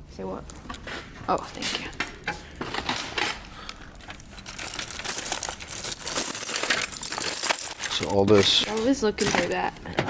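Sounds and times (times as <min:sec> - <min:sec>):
crinkling and rustling: 0:00.5 - 0:10.0.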